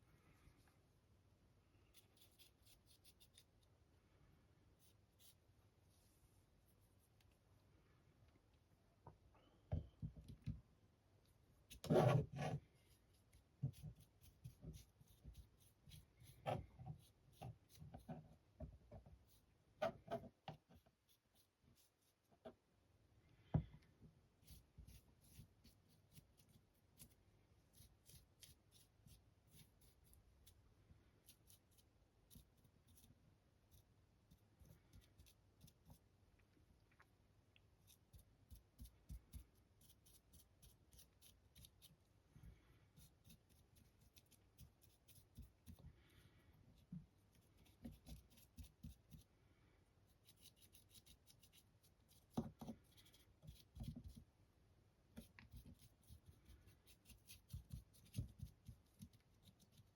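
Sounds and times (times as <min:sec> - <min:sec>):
faint ticks and scratches: 0:01.7 - 0:03.8, 0:11.2 - 0:22.6, 0:23.7 - 0:49.3, 0:50.0 - 0:54.4, 0:55.1 - 0:59.9.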